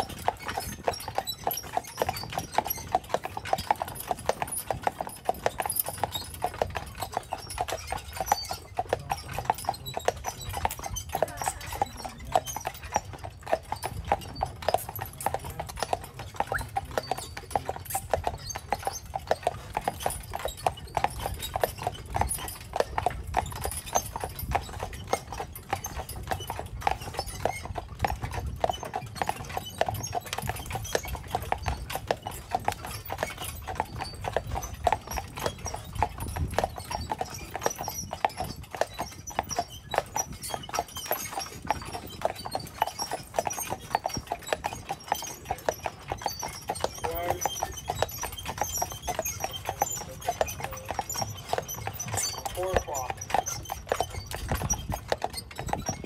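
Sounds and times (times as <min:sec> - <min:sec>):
horse hooves clip-clopping on pavement: 0:00.0 - 0:56.0.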